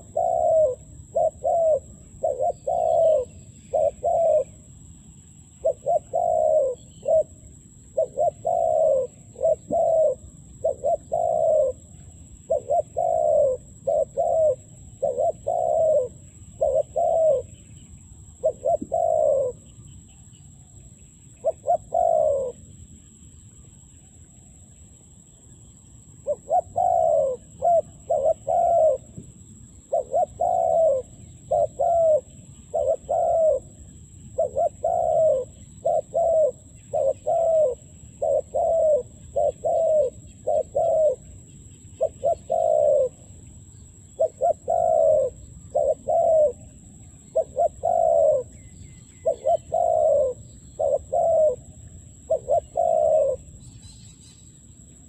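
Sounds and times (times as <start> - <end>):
dove cooing: 0.0 - 4.8, 5.6 - 17.7, 18.3 - 19.7, 21.3 - 22.7, 26.2 - 54.2.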